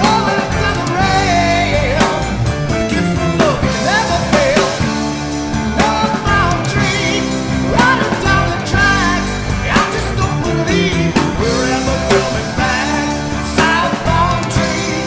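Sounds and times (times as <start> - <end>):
heavy metal band playing: 0.0 - 15.0
wavering lead guitar line: 0.0 - 15.0.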